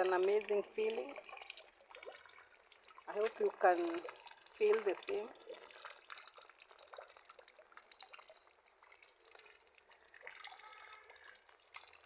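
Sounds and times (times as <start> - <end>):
rain dripping into water tank: 0.0 - 12.0.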